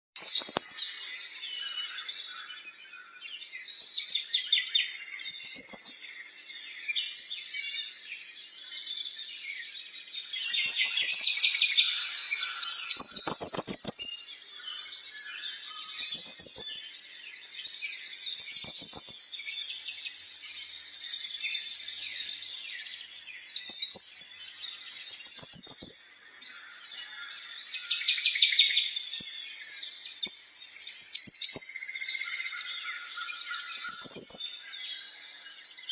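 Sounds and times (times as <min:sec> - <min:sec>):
small birds chirping: 0:00.2 - 0:35.9.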